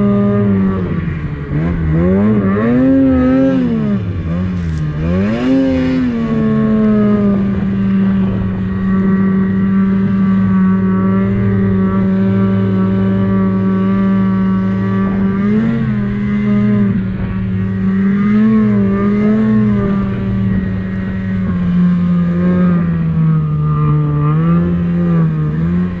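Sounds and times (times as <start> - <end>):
snowmobile engine running: 0.0 - 26.0.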